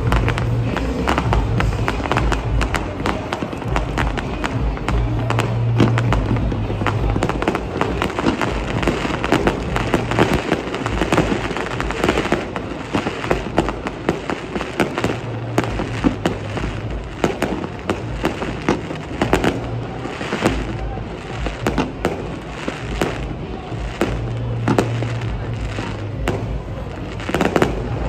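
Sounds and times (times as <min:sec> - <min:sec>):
fireworks cracking and popping: 0:00.0 - 0:28.0
fireworks rumble and crackle: 0:00.0 - 0:28.0.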